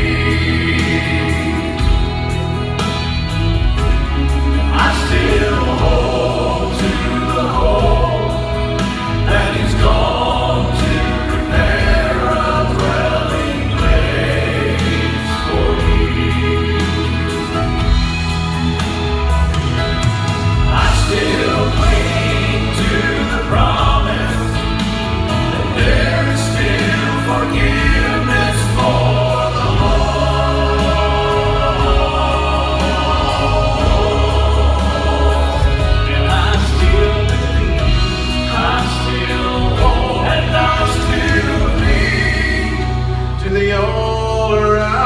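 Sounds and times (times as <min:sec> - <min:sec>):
vocal quartet singing a hymn: 0:00.0 - 0:45.0.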